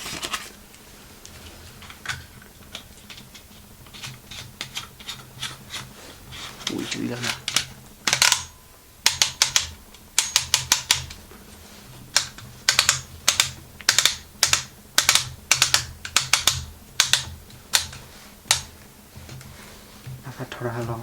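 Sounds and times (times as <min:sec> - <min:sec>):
faint low hum: 0:00.0 - 0:21.0
sharp clicks in clusters: 0:01.2 - 0:19.5.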